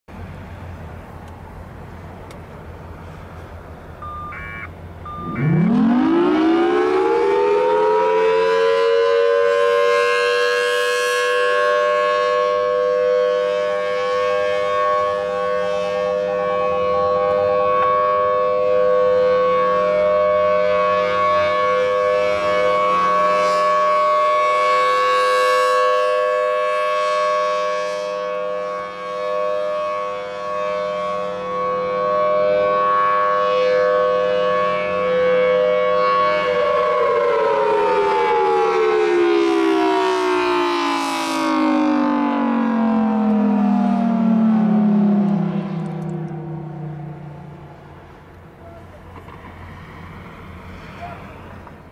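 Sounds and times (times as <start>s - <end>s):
warning siren wailing: 4.0s - 51.9s.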